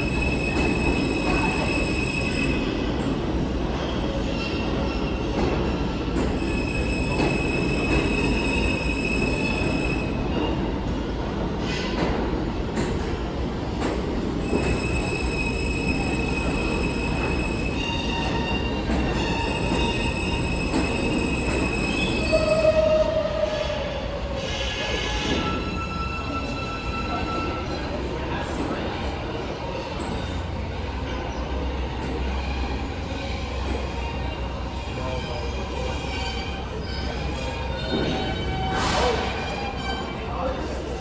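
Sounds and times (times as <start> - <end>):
train rumble: 0.0 - 41.0
train wheels squealing on rails: 0.0 - 41.0.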